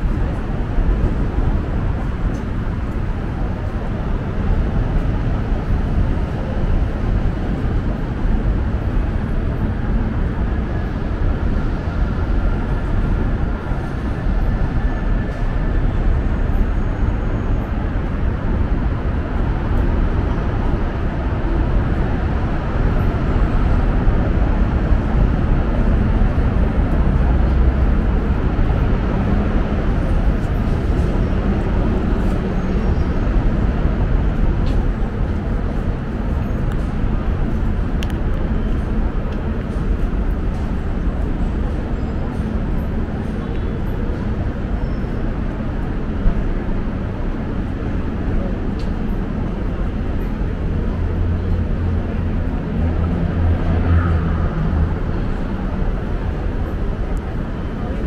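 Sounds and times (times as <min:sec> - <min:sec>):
low rumble of traffic: 0:00.0 - 0:58.0.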